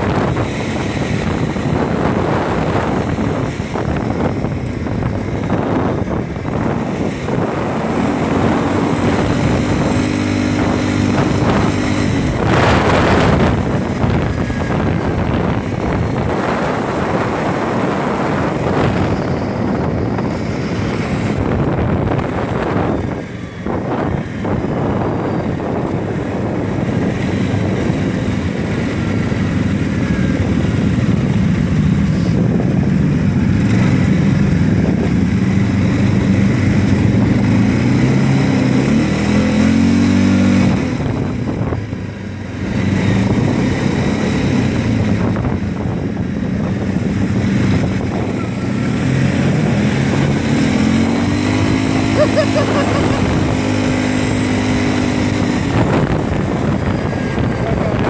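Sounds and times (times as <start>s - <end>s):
quad bike engine revving: 0.0s - 58.0s
wind noise: 0.0s - 58.0s.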